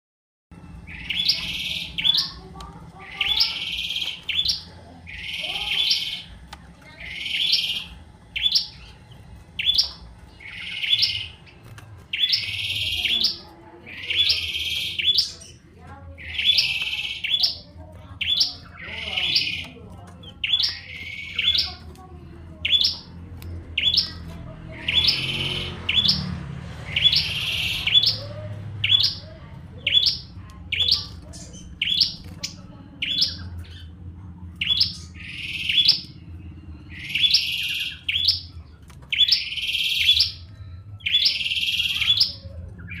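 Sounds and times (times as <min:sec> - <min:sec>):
prinia singing: 0:00.6 - 0:43.0.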